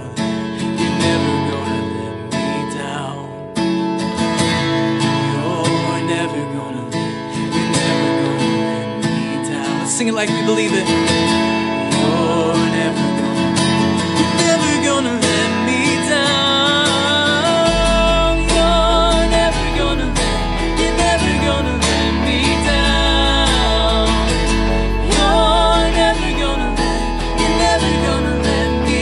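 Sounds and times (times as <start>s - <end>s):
instrumental worship music: 0.0s - 29.0s
strummed acoustic guitar: 0.0s - 29.0s.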